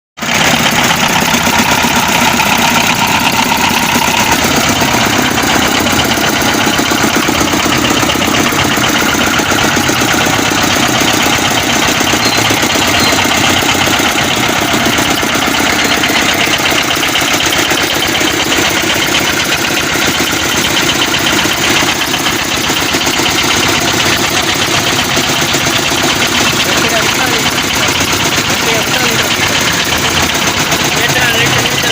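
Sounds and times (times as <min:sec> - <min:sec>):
diesel engine knocking: 0:00.2 - 0:31.9.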